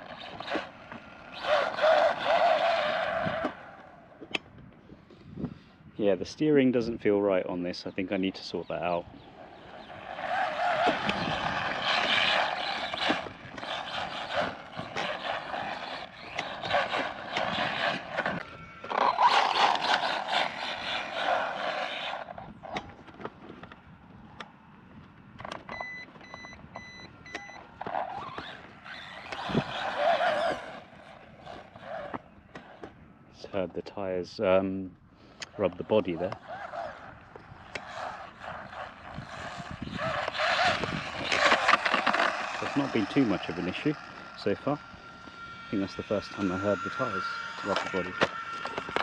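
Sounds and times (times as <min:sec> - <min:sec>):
tyres running over ground: 0:00.0 - 0:04.6, 0:07.0 - 0:34.5, 0:35.4 - 0:49.0
rc truck motor whining: 0:00.0 - 0:05.2, 0:08.6 - 0:23.8, 0:25.4 - 0:33.6, 0:35.3 - 0:49.0.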